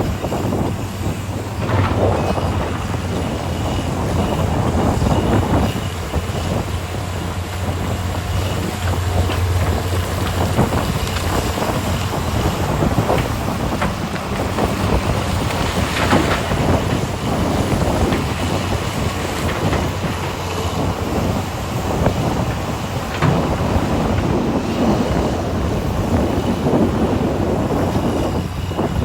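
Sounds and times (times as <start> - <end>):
diesel machinery low hum: 0.0 - 29.0
wind buffeting microphone: 0.0 - 29.0.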